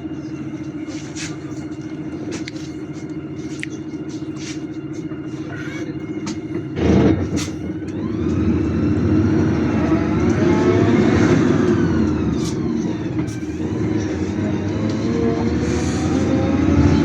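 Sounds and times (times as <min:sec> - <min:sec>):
bus engine rumble: 0:00.0 - 0:17.0
rising and falling whine: 0:00.0 - 0:17.0.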